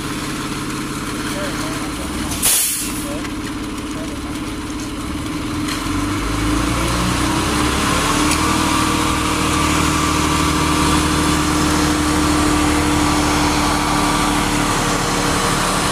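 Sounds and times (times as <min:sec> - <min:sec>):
concrete mixer truck engine: 0:00.0 - 0:15.9.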